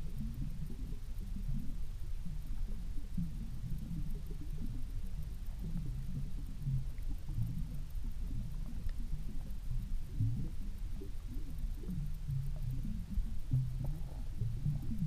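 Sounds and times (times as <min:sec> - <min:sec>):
faint ticks: 0:00.0 - 0:15.0
muffled underwater rumble: 0:00.0 - 0:15.0.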